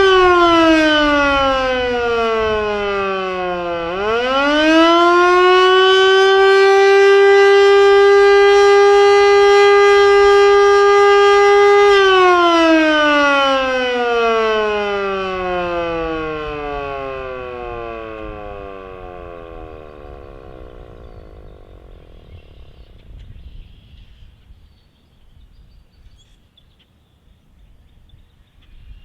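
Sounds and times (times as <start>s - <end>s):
warning siren wailing: 0.0s - 23.4s.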